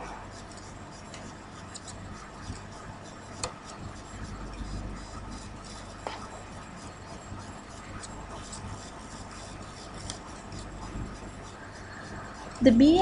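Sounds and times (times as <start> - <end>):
mains hum and hiss: 0.0 - 13.0.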